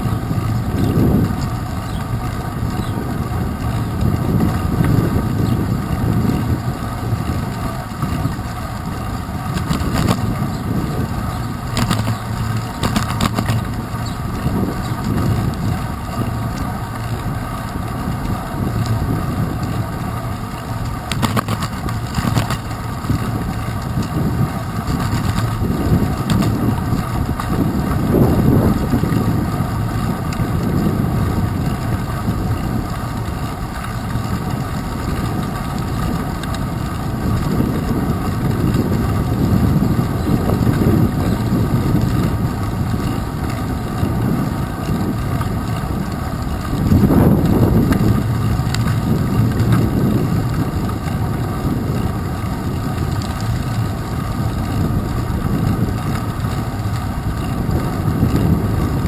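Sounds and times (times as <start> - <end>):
bicycle rolling over wet pavement: 0.0 - 59.0
wind buffeting microphone: 0.0 - 59.0.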